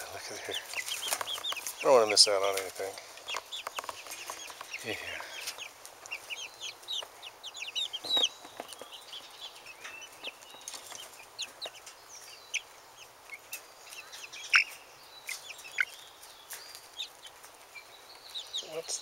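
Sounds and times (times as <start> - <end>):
hens clucking and chirping: 0.0 - 19.0.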